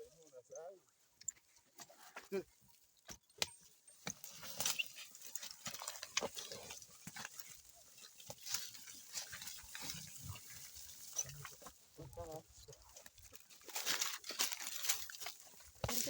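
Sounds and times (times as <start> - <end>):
plough clicks and scraping rustles: 3.1 - 16.0.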